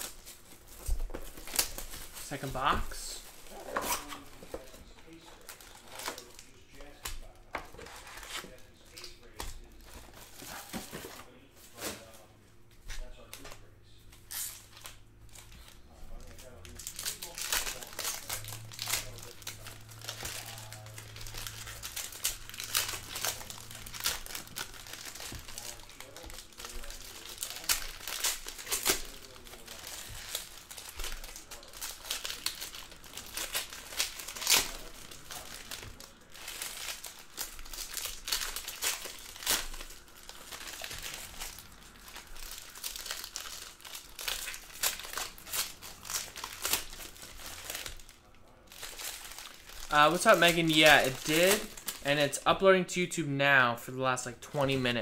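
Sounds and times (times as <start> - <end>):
foil wrappers crinkling: 0.0 - 52.4.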